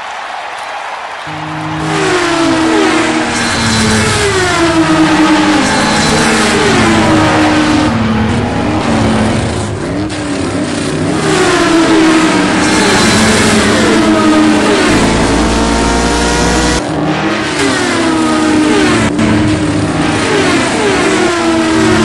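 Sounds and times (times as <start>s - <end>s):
race car engines revving: 1.3s - 22.0s.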